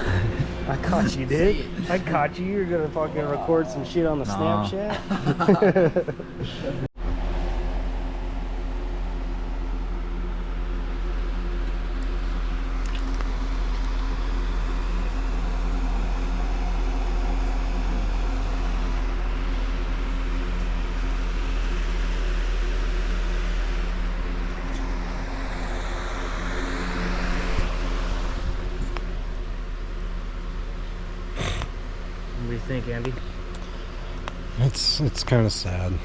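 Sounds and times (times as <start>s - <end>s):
mechanical hum: 0.0s - 36.0s.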